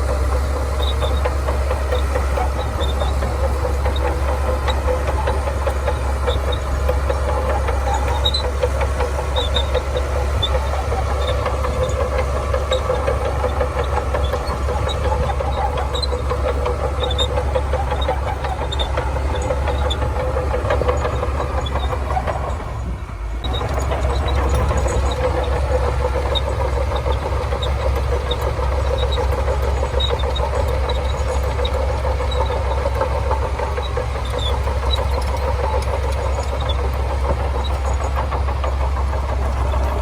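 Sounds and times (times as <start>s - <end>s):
bulldozer diesel engine droning: 0.0s - 40.0s.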